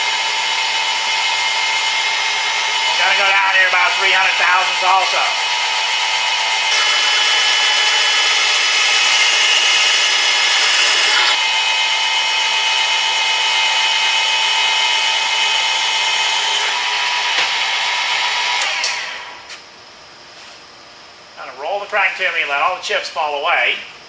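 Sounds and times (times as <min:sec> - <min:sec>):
motor winding down: 0:00.0 - 0:19.5
drill cutting metal: 0:00.0 - 0:19.6
drill motor whine: 0:00.0 - 0:19.6.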